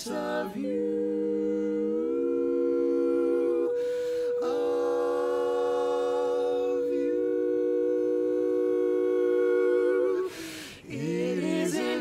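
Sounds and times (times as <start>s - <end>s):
barbershop quartet singing: 0.0s - 12.0s.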